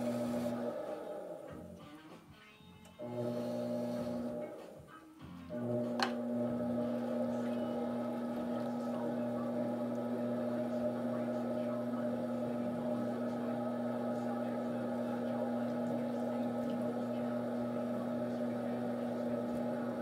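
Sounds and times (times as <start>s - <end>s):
pottery wheel motor hum: 0.0s - 1.8s, 3.0s - 4.6s, 5.5s - 20.0s.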